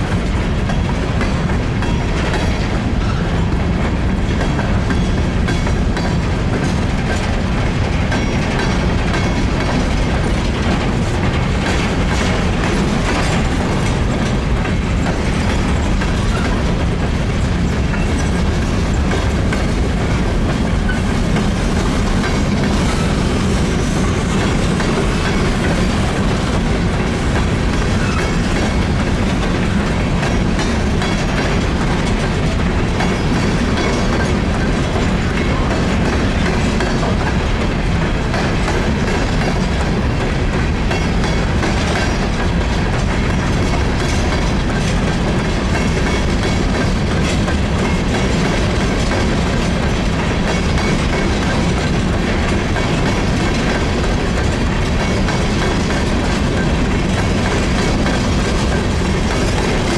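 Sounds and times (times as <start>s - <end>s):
freight train rolling past: 0.0s - 59.9s
clicks and rattles of wheels: 3.8s - 59.9s.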